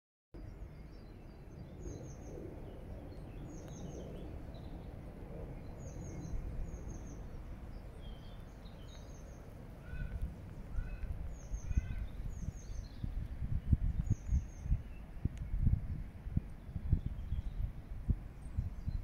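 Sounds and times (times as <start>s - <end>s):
small birds chirping: 0.4s - 19.0s.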